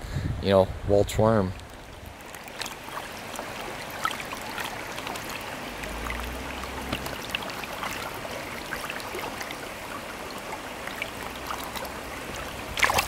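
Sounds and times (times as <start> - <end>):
stream water babbling: 1.2 - 13.0
fish tail splashing: 1.6 - 13.0.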